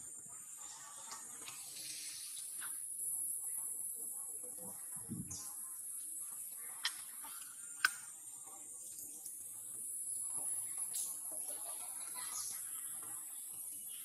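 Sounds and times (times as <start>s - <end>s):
insects droning high-pitched: 0.0s - 14.0s.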